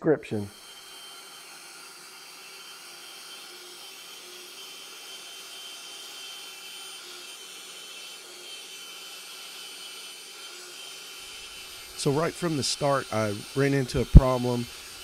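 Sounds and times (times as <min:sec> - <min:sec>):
bandsaw cutting steel: 0:00.3 - 0:15.0.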